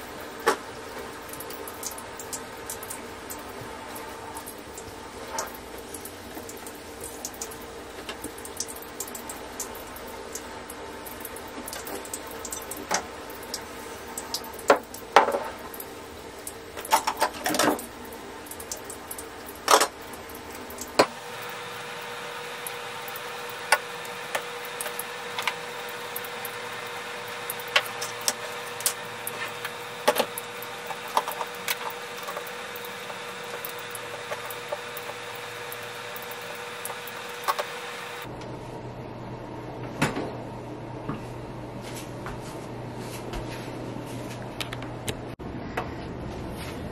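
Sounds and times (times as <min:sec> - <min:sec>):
steady background hum: 0:00.0 - 0:46.9.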